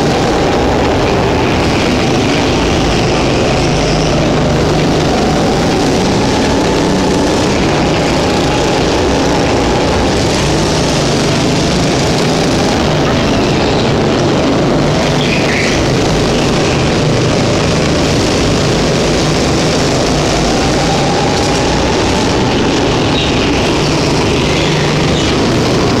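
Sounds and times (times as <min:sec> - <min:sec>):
go-kart engines droning: 0:00.0 - 0:26.0.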